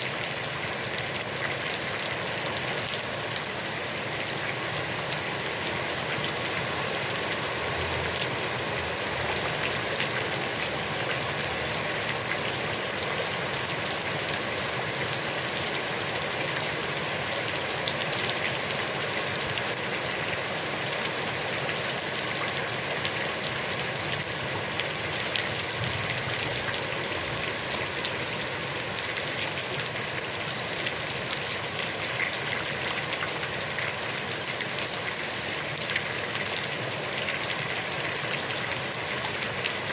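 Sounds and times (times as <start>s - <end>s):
heavy rain on pond water: 0.0s - 39.9s.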